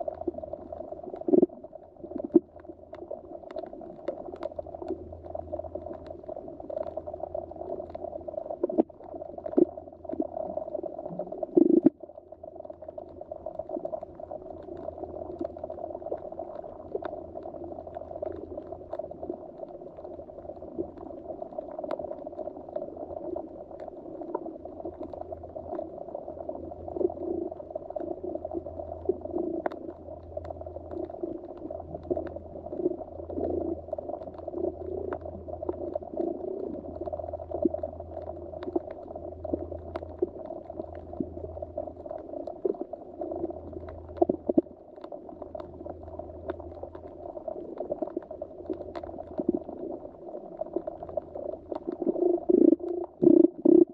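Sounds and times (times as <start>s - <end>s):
underwater gurgling rumble: 0.0s - 53.9s.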